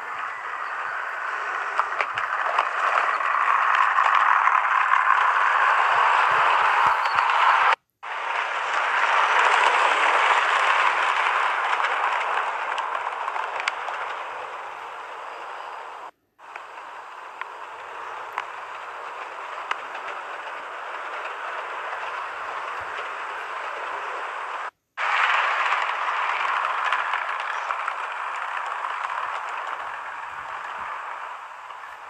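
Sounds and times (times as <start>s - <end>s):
model train rolling hiss: 0.0s - 32.0s.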